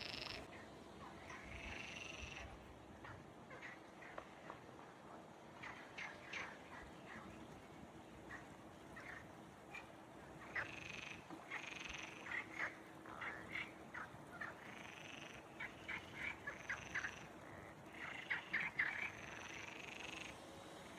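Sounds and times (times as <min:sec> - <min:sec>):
frogs croaking in chorus: 0:00.0 - 0:07.4, 0:08.2 - 0:20.4.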